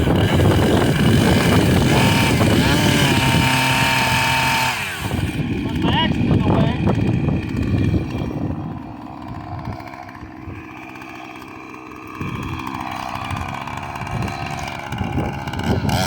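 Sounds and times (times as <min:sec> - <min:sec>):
chainsaw idling: 0:00.0 - 0:16.0.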